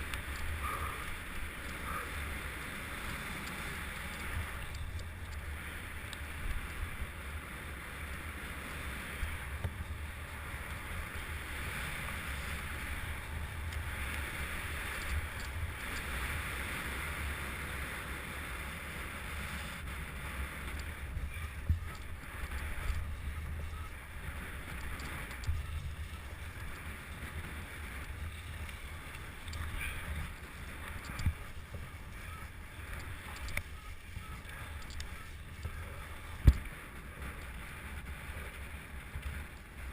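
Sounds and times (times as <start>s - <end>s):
bike tyre rumble: 0.0s - 39.9s
wind rushing over microphone: 0.0s - 39.9s.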